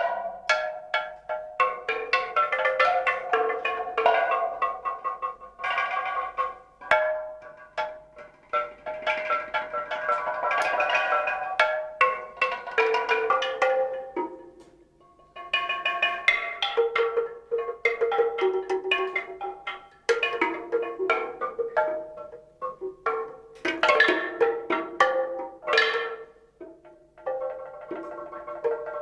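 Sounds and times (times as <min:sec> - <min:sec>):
tuned percussion ringing notes: 0:00.0 - 0:29.0.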